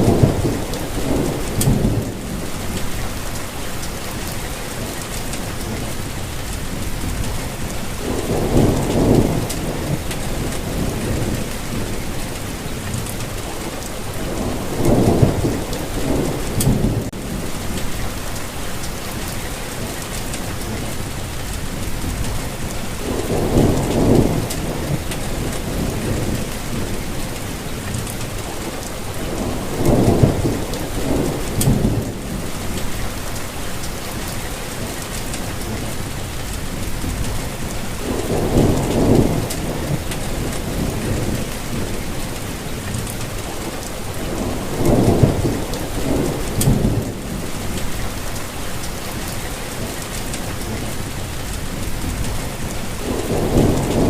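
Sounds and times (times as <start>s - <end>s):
distant thunder rumbles: 0.0s - 6.0s, 6.7s - 21.1s, 21.7s - 34.3s, 36.7s - 54.0s
steady rain hissing: 0.0s - 54.0s.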